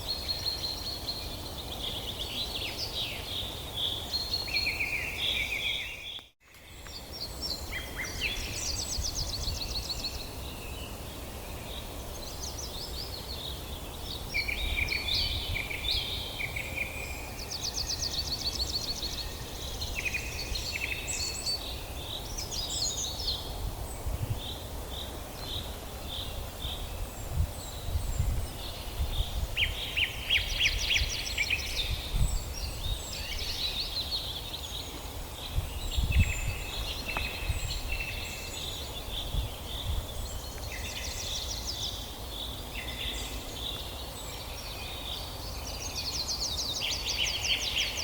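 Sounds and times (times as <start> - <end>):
songbirds singing: 0.0 - 48.0.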